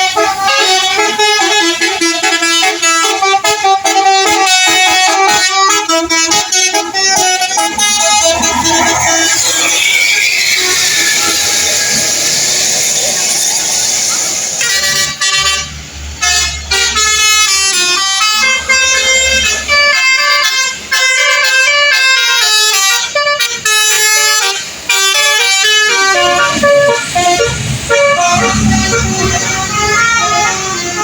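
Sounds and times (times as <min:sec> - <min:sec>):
musical vehicle horn playing a tune: 0:00.0 - 0:11.6, 0:14.6 - 0:31.0.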